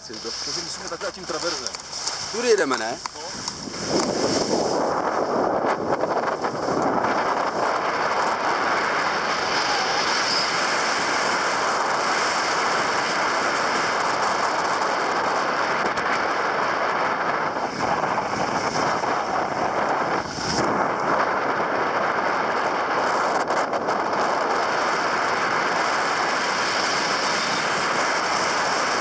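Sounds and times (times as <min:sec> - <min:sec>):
skis scraping over snow: 0:00.0 - 0:29.0
wind on microphone: 0:00.0 - 0:29.0.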